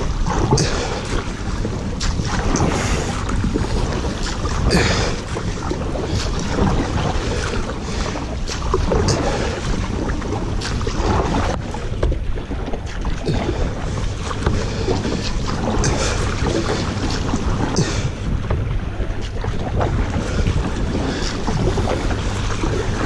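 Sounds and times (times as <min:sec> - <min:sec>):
paddle strokes splashing: 0:00.0 - 0:23.0
water rushing: 0:00.0 - 0:23.0
wind buffeting microphone: 0:00.0 - 0:23.0.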